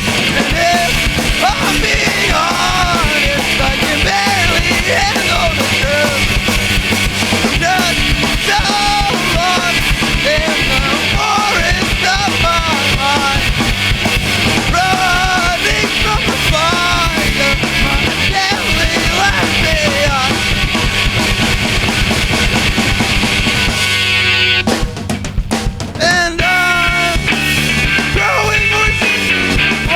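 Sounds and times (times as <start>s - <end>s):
drum kit: 0.0s - 29.9s
rock band playing live: 0.0s - 29.9s.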